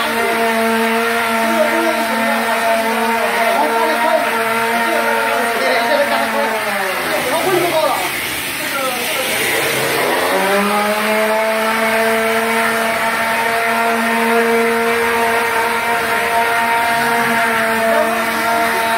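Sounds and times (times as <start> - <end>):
motor whine: 0.0 - 18.9.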